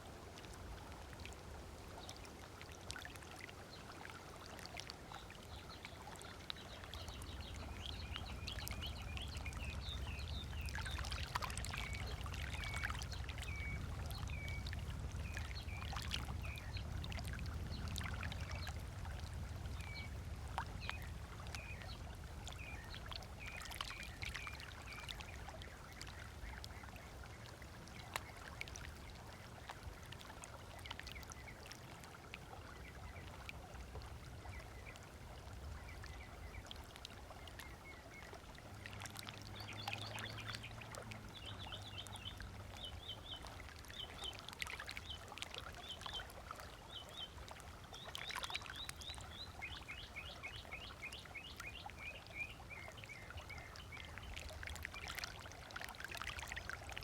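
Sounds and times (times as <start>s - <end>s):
small waves lapping on sand: 0.0s - 57.0s.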